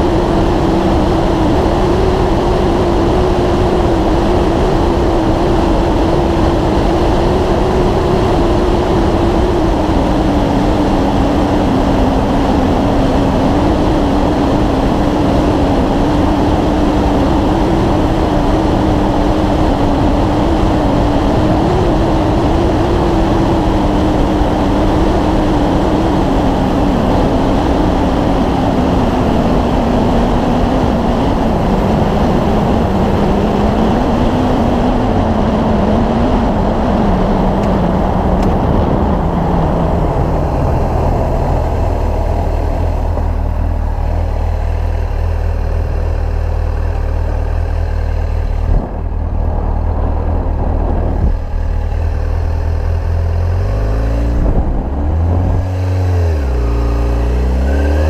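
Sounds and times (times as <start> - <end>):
motorcycle engine hum: 0.0 - 58.0
wind rush over microphone: 0.0 - 58.0.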